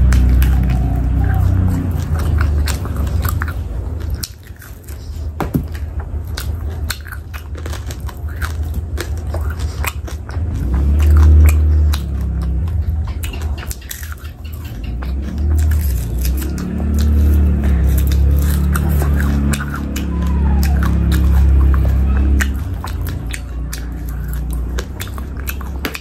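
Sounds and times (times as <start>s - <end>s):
close chewing with mouth smacks: 0.0s - 26.0s.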